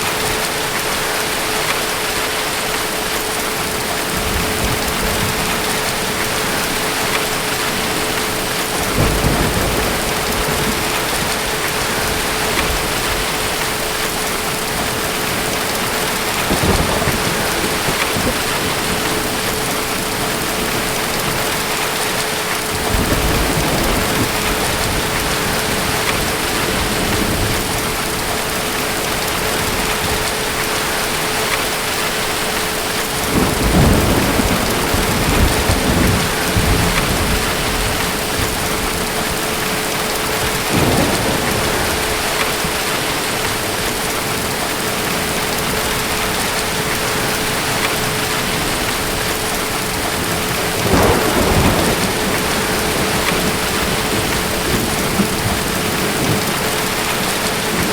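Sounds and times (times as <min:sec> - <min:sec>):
distant thunder rumbling: 0:00.0 - 0:57.9
heavy rain: 0:00.0 - 0:57.9.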